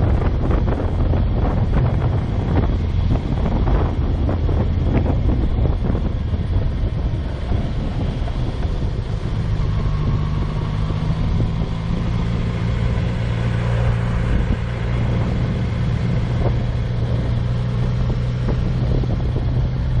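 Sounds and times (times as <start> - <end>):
motorcycle engine running: 0.0 - 20.0
wind noise on microphone: 0.0 - 20.0.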